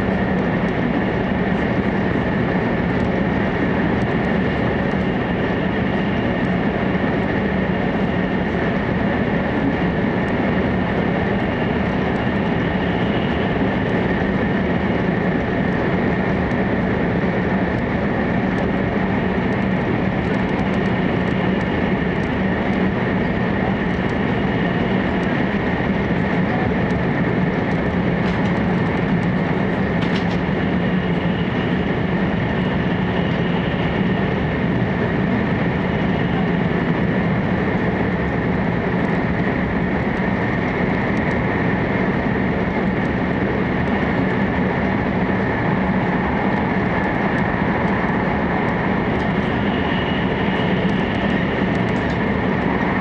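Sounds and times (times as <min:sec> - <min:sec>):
train running in tunnel: 0:00.0 - 0:53.0.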